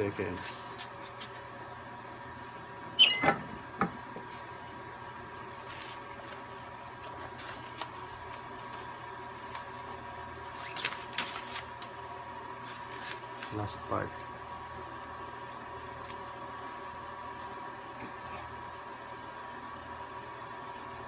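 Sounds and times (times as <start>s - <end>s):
faint steady high hum: 0.0s - 21.0s.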